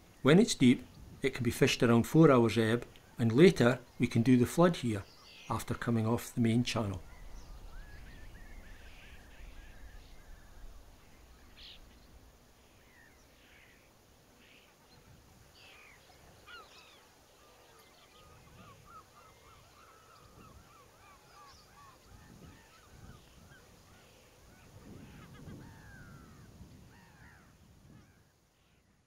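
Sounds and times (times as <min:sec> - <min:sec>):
low wind rumble: 0:00.0 - 0:14.4, 0:18.2 - 0:28.3
flock of birds calling: 0:02.9 - 0:28.2.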